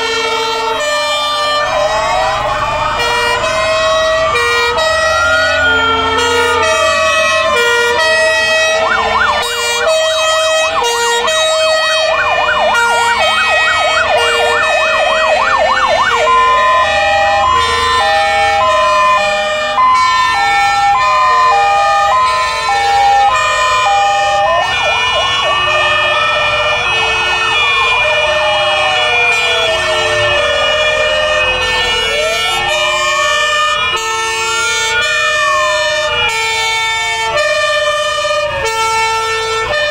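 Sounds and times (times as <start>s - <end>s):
fast yelping siren: 0.0s - 39.9s
fire truck engines: 0.0s - 39.9s
two-tone sirens: 0.0s - 39.9s
wailing fire engine sirens: 0.0s - 39.9s.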